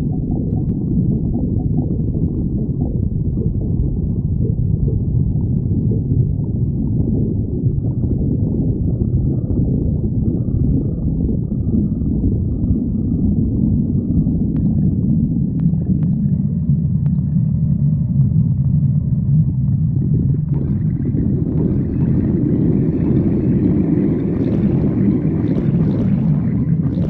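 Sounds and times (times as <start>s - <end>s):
stomach growling: 0.0s - 27.0s.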